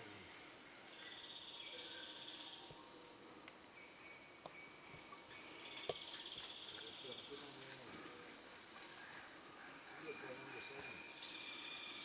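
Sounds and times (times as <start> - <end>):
low pulsing insect trill: 0.0 - 12.0.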